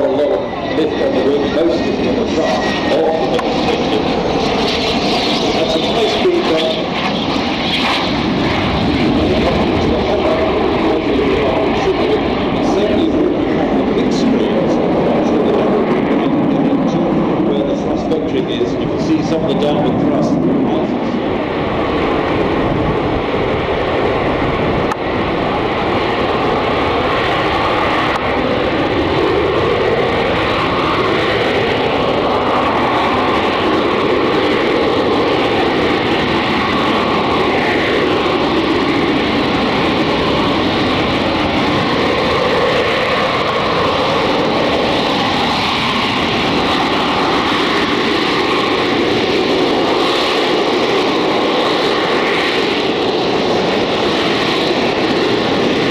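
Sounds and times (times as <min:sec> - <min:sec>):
jet engine roar with whine: 0:00.0 - 0:55.9.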